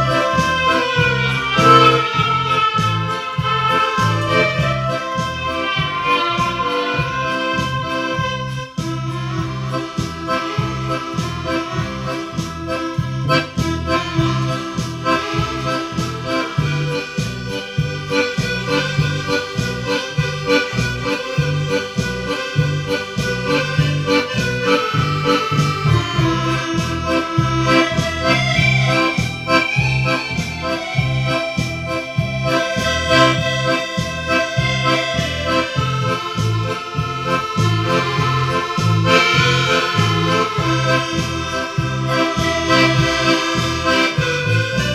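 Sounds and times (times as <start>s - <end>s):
accordion music: 0.0s - 44.9s
rhythmic bass beat: 0.0s - 44.9s.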